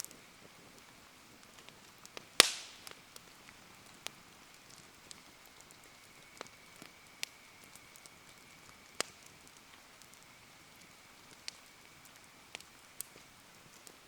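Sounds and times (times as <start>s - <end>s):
campfire crackling pops: 0.0s - 14.0s
rain falling: 0.0s - 14.0s.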